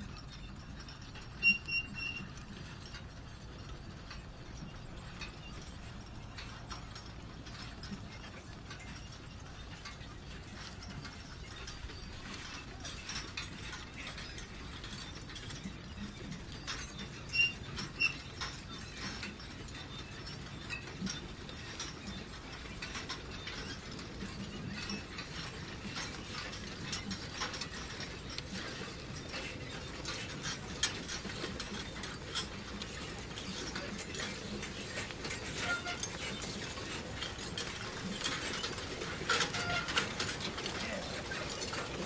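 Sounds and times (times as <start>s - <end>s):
manure spreader clattering: 0.2s - 42.0s.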